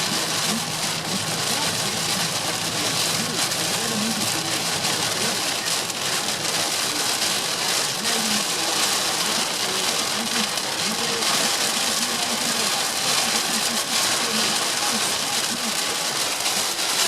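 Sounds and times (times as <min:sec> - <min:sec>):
heavy rain on car: 0:00.0 - 0:17.0.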